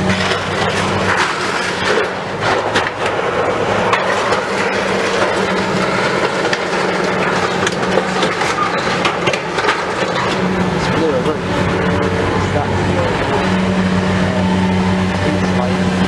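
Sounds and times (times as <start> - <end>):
debris crunching and cracking: 0.0 - 16.0
excavator diesel engine running: 0.0 - 16.0.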